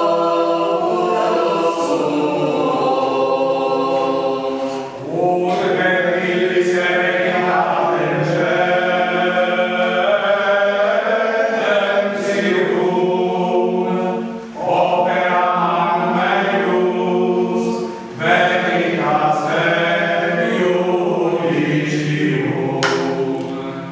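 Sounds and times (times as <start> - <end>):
group of voices chanting: 0.0 - 23.9.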